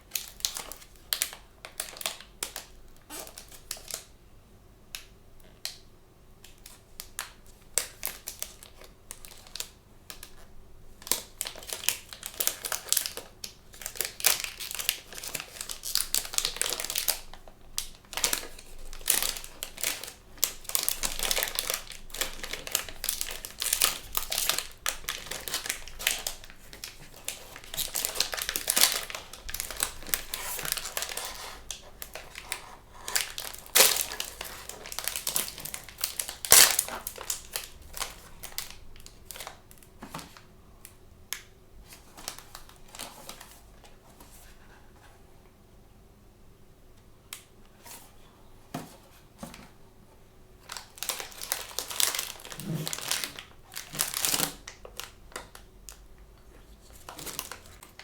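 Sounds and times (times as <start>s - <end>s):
plastic packaging crinkling: 0.0s - 4.1s, 6.4s - 40.5s, 41.3s - 44.5s, 50.6s - 58.0s.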